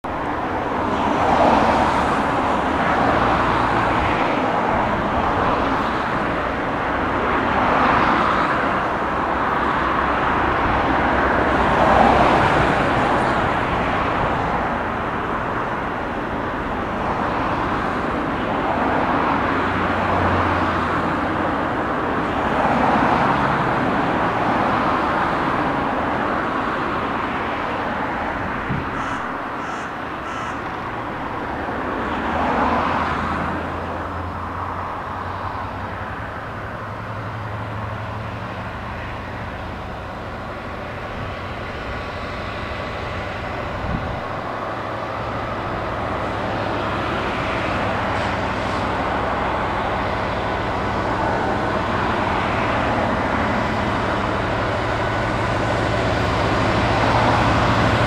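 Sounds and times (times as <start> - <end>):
diesel locomotive engine droning: 0.0 - 58.0.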